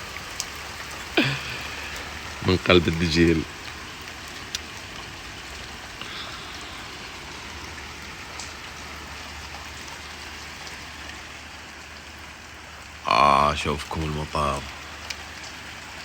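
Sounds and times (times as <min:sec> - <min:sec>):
faint drip ticks: 0:00.0 - 0:16.0
heavy rain splashing: 0:00.0 - 0:16.0.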